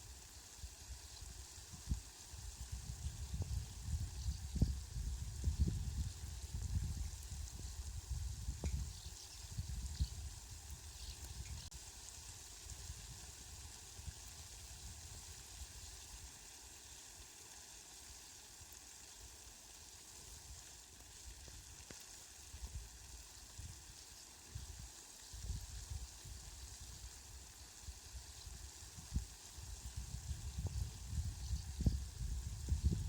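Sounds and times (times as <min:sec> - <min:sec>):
hiss of falling rain: 0:00.0 - 0:33.0.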